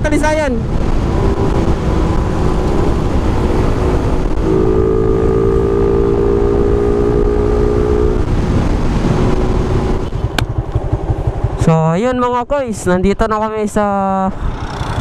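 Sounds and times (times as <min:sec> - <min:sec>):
wind rumble on microphone: 0:00.0 - 0:13.2
motorcycle engine cruising: 0:00.6 - 0:12.0, 0:14.4 - 0:15.0.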